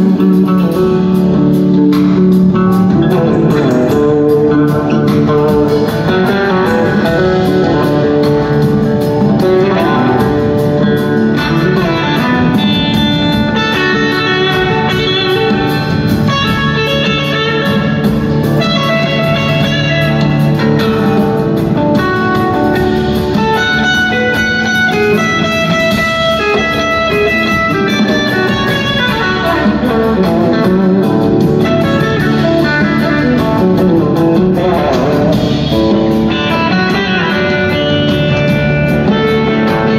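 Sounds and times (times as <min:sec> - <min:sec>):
electric guitar lead lines: 0:00.0 - 0:39.9
live rock band playing: 0:00.0 - 0:39.9.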